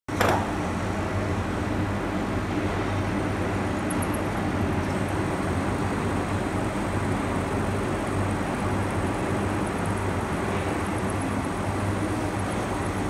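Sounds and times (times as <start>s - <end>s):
milling machine humming: 0.4s - 13.0s.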